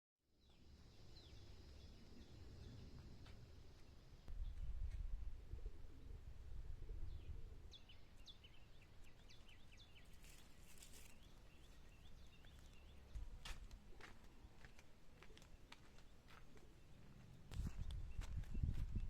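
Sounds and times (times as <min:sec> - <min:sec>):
small birds chirping: 0:00.4 - 0:19.0.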